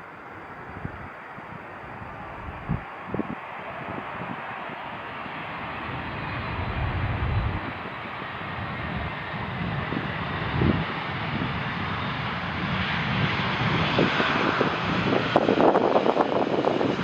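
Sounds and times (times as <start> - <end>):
jet airliner engine rushing: 0.0 - 17.0.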